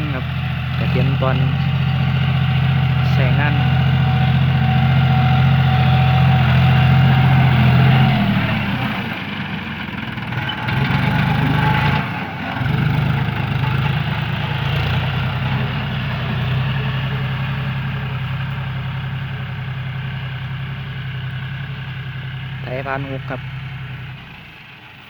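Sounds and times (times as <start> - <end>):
tractor diesel engine idling: 0.0 - 25.0.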